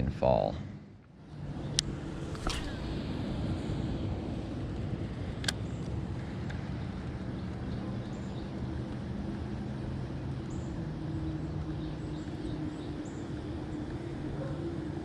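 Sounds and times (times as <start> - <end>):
engine hum: 0.7 - 15.0.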